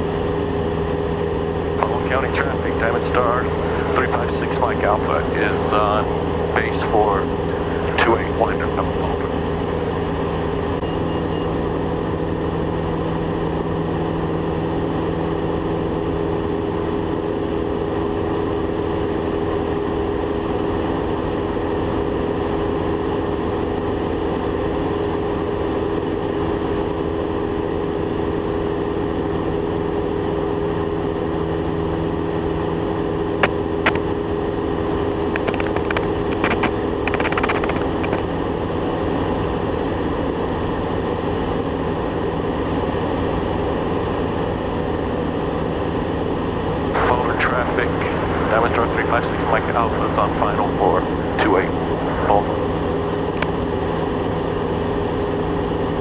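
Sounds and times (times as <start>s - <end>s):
aircraft engine and propeller droning: 0.0s - 56.0s.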